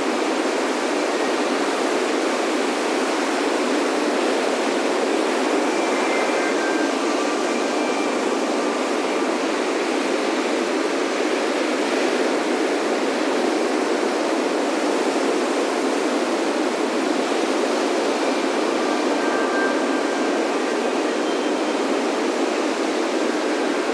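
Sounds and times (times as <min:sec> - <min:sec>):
faint wind chimes: 0:00.2 - 0:23.9.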